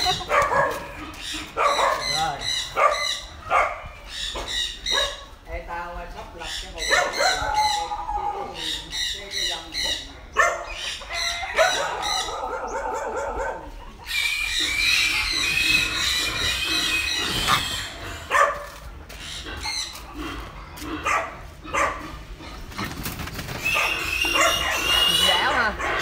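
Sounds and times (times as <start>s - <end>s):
piglets squealing: 0.0s - 5.4s, 6.4s - 12.9s, 13.6s - 18.4s, 19.2s - 22.7s, 23.5s - 26.0s.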